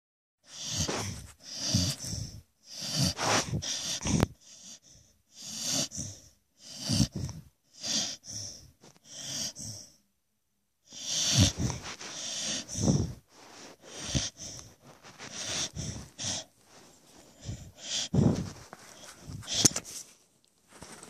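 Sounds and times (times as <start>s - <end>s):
dog snoring: 0.4s - 10.0s, 10.8s - 19.8s.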